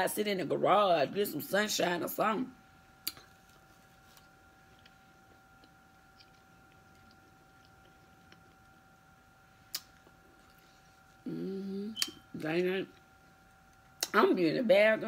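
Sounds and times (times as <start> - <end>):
faint background tone: 0.0 - 15.0.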